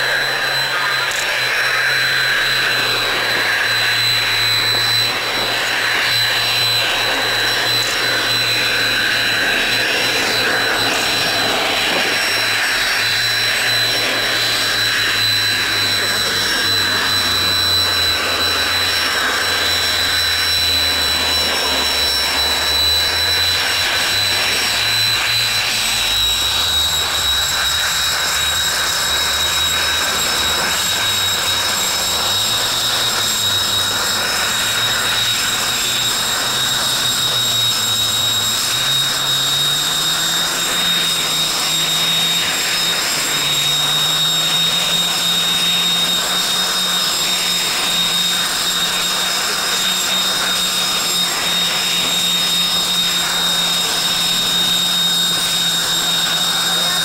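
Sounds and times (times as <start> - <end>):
jet engines idling whine: 0.0 - 57.0.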